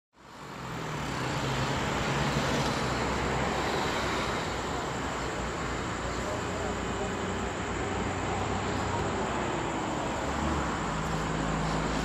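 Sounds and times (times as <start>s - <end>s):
distant traffic rumble: 0.2s - 12.0s.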